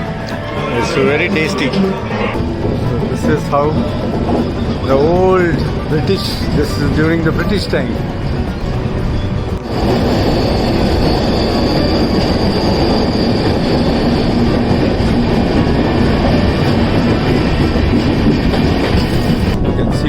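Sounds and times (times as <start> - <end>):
train rumbling on rails: 0.0 - 20.0
wheels squealing on rail: 0.0 - 20.0.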